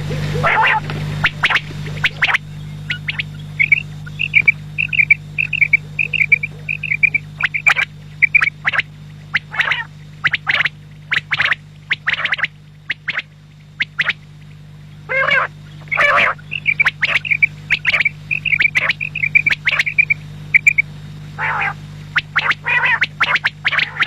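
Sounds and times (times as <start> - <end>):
quail calling: 0.0 - 14.2, 15.1 - 24.0
steady low hum: 0.0 - 24.0.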